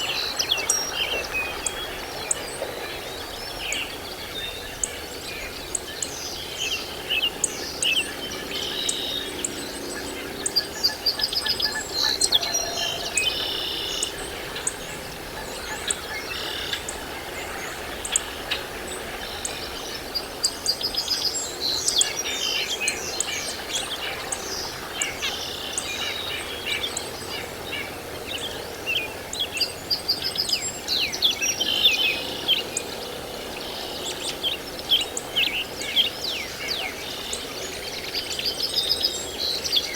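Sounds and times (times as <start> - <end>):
birds chirping and twittering: 0.0 - 39.9
steady outdoor hiss: 0.0 - 39.9.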